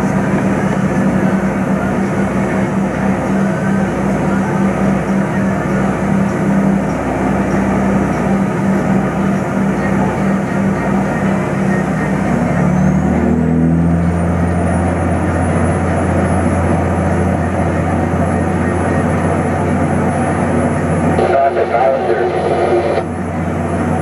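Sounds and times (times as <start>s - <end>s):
heavy engine humming: 0.0s - 24.0s
high whine: 0.0s - 24.0s.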